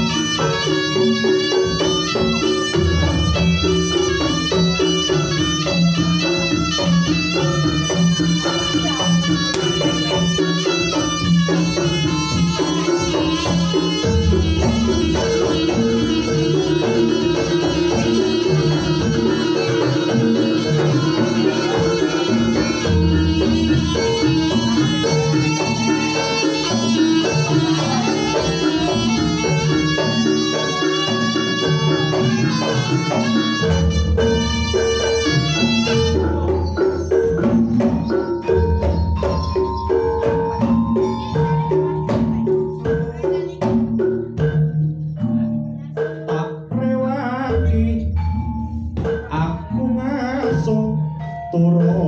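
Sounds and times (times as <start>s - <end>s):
reed shawm melody: 0.0s - 45.4s
hand drums: 0.0s - 52.0s
low gamelan strokes: 0.0s - 52.0s.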